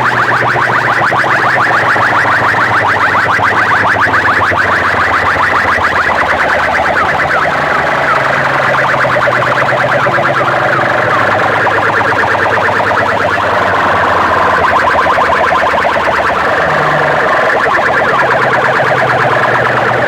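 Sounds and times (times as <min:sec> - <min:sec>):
electronic siren warbling chirps: 0:00.0 - 0:20.0.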